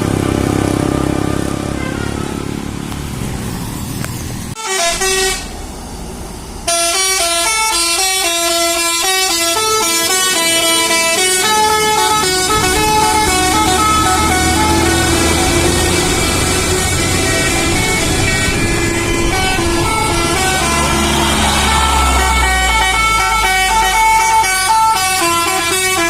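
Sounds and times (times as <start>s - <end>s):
vehicle engine rumble: 0.0s - 26.0s
bus melody horn: 1.4s - 2.6s, 4.6s - 5.6s, 6.7s - 26.0s.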